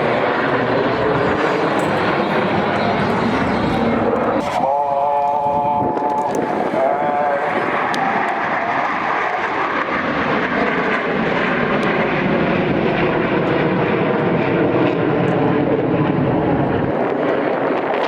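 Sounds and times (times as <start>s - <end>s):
aircraft engine roar: 0.0s - 18.0s.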